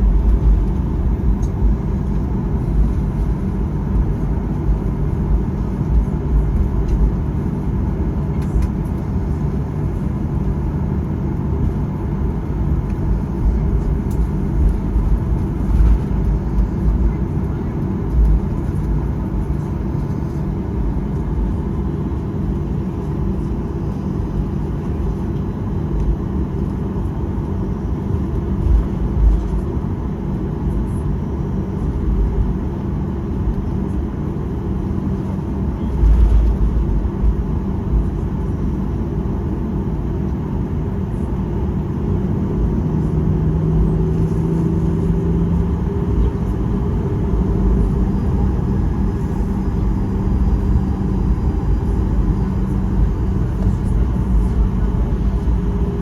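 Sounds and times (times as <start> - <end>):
engines idling low rumble: 0.0 - 56.0.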